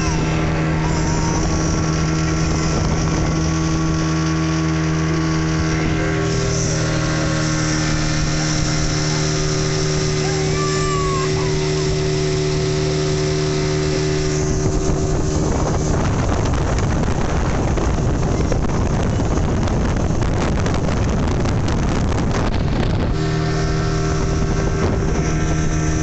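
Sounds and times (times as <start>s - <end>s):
speedboat engine humming: 0.0s - 26.0s
water noise: 0.0s - 26.0s
wind rushing on microphone: 0.0s - 26.0s.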